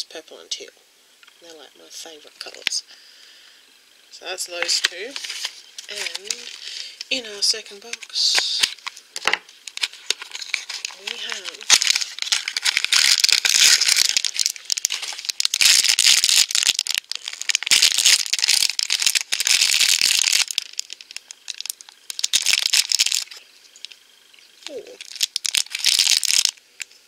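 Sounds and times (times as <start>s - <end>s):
foil packaging crinkling: 4.6s - 24.0s, 24.6s - 27.0s.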